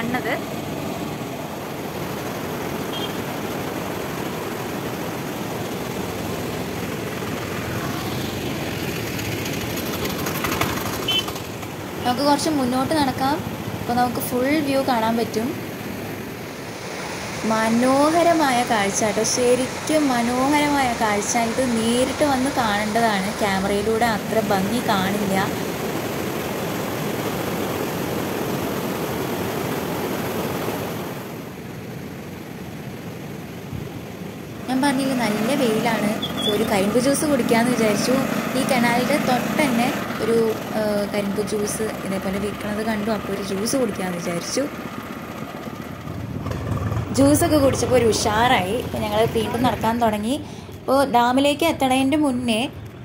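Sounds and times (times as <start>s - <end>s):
white water rushing: 0.0s - 50.6s.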